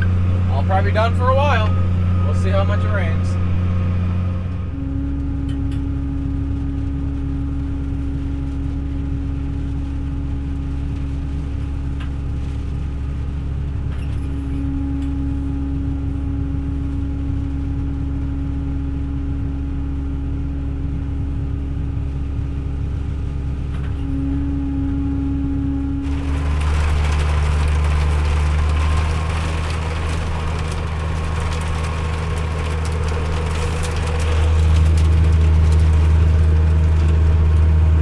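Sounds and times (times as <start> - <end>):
steady hum: 0.0 - 38.0
tractor engine droning: 0.0 - 38.0.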